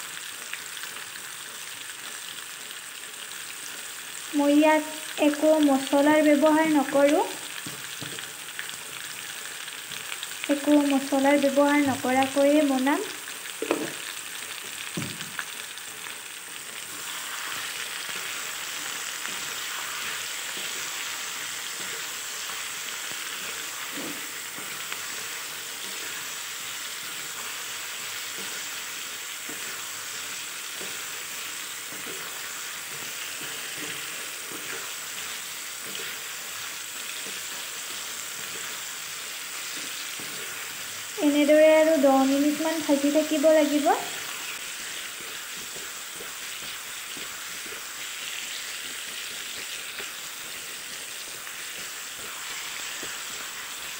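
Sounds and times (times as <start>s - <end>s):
food sizzling in oil: 0.0s - 53.9s.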